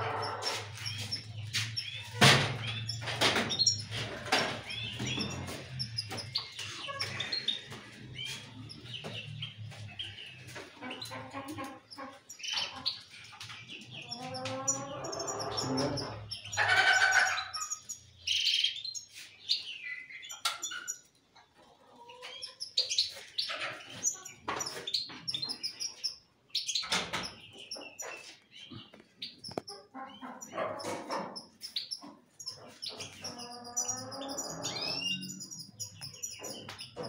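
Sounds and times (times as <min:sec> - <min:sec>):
birds chirping and twittering: 0:00.0 - 0:37.0.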